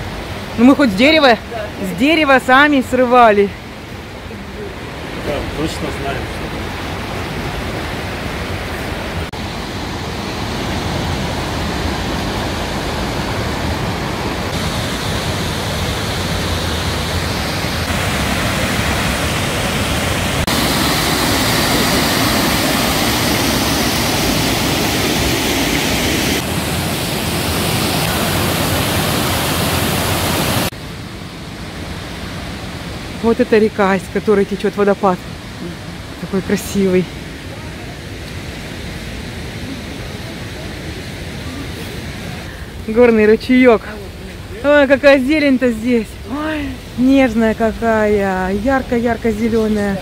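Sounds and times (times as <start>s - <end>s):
river rushing: 0.0s - 50.0s
waterfall spilling over weir: 0.0s - 50.0s.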